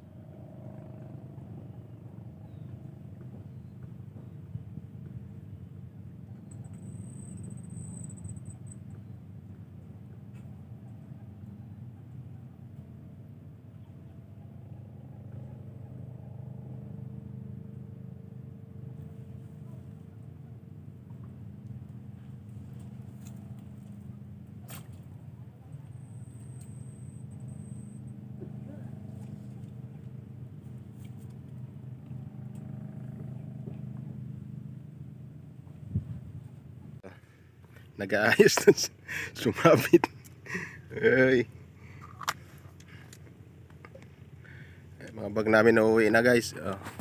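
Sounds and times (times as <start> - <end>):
engine humming: 0.0 - 47.0.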